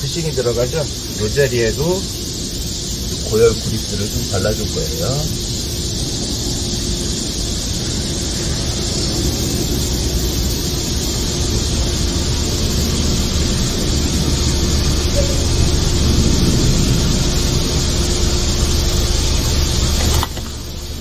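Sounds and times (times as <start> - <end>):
constant hum: 0.0 - 21.0
hiss: 0.0 - 21.0
low mechanical rumble: 0.0 - 21.0.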